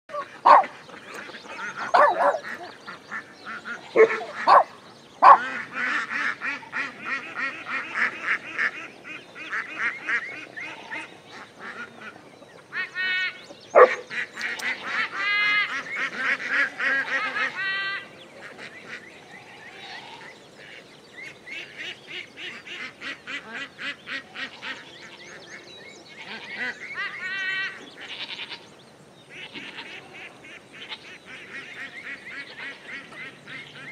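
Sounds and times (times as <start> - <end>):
ducks quacking: 0.1 - 25.4, 26.2 - 28.7, 29.3 - 33.9.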